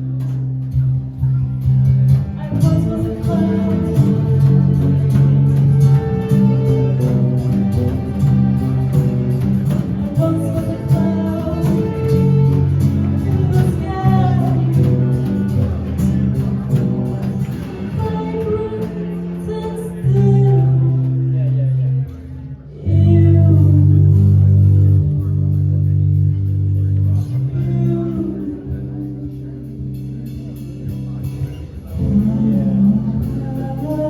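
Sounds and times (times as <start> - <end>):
guitar: 0.0 - 34.0
live band music: 0.0 - 34.0
plucked notes: 0.0 - 34.0.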